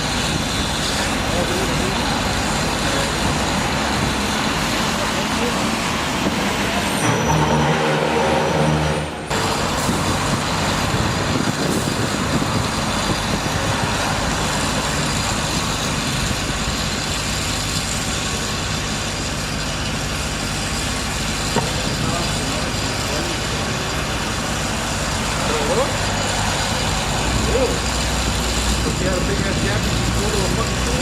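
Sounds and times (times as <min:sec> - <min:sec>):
heavy vehicle engine drone: 0:00.0 - 0:31.0
traffic noise: 0:00.0 - 0:31.0.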